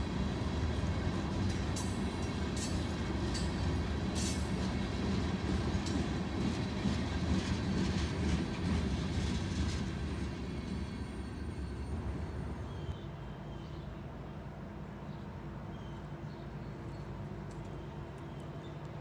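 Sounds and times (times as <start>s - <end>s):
freight train rumbling past: 0.0s - 15.7s.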